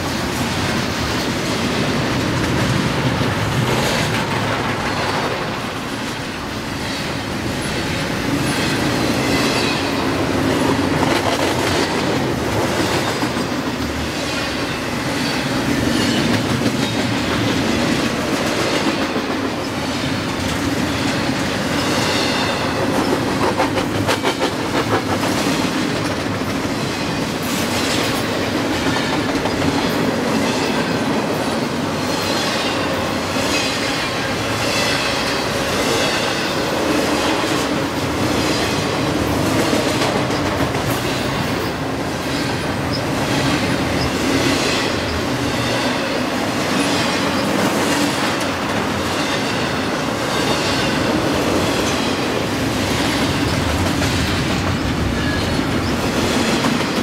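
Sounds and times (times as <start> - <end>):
train cars rumbling past: 0.0 - 57.0.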